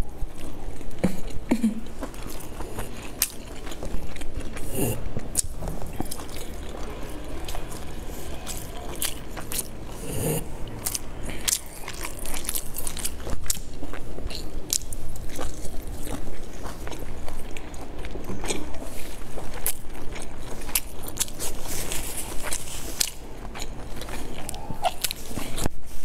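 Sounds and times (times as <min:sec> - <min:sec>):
person chewing food: 0:00.0 - 0:25.8.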